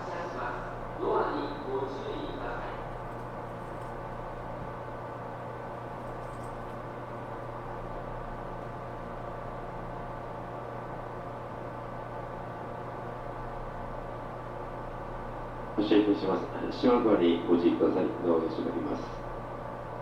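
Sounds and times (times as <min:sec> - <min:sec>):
train electrical equipment humming: 0:00.0 - 0:20.0.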